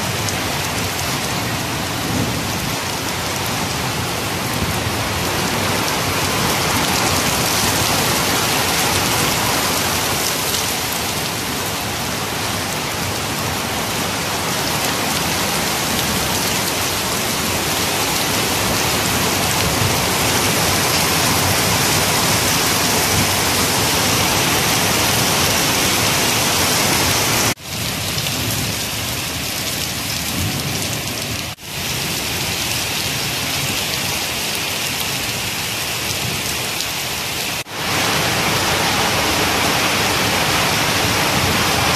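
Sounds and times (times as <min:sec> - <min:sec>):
heavy rain on concrete roof: 0:00.0 - 0:41.9.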